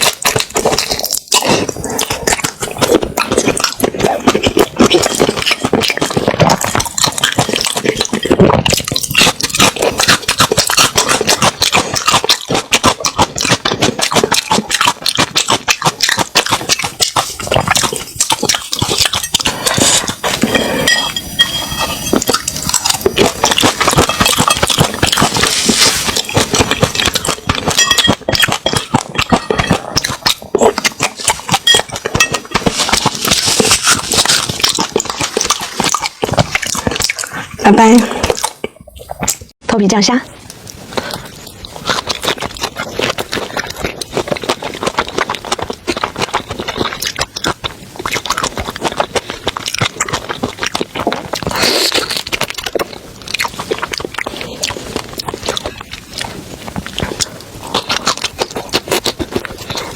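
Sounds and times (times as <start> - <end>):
wet chewing and crunching: 0.0 - 59.9.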